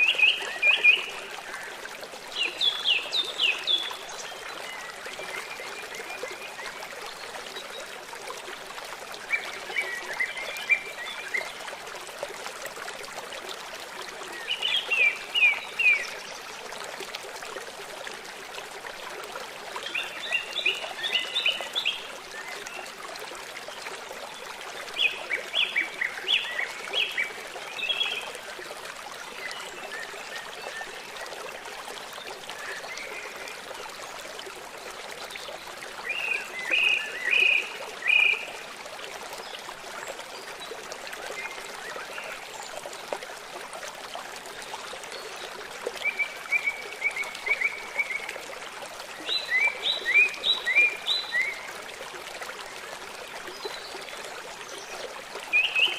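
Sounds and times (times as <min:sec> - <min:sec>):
stream running water: 0:00.0 - 0:55.9.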